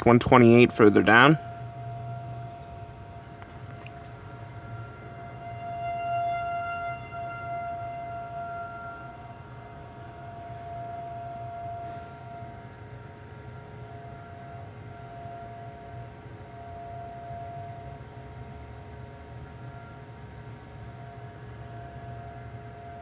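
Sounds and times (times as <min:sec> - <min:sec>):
rotating warning sirens: 0:00.0 - 0:23.0.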